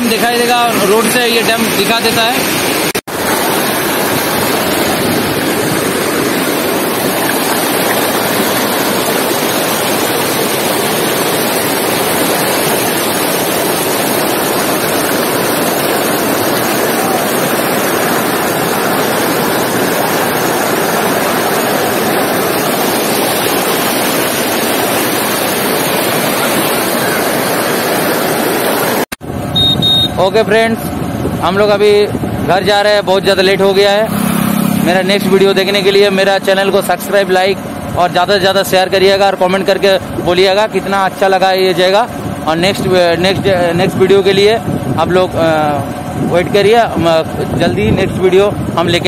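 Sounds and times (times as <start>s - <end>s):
water rushing over dam spillway: 0.0s - 29.0s, 30.0s - 49.0s.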